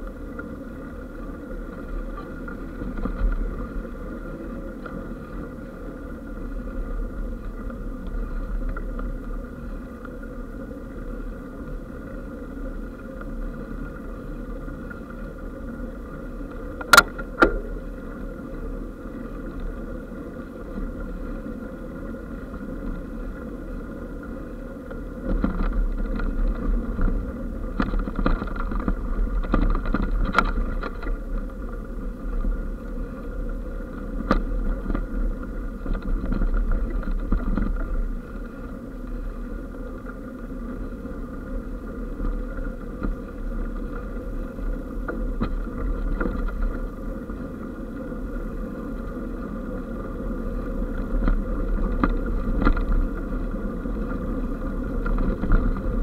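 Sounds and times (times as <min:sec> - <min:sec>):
bike tyre rumble and rattles: 0:00.0 - 0:56.0
faint steady whine: 0:00.0 - 0:56.0.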